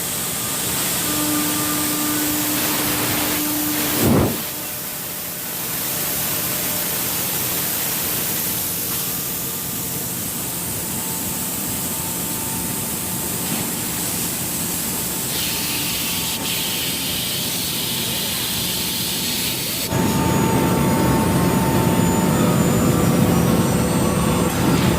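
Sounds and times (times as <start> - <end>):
router cutting wood hiss: 0.1 - 20.3.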